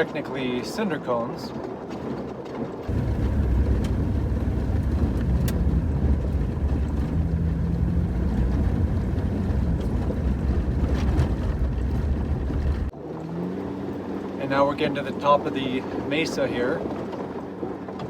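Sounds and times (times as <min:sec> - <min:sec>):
vehicle driving on gravel: 0:00.0 - 0:18.0.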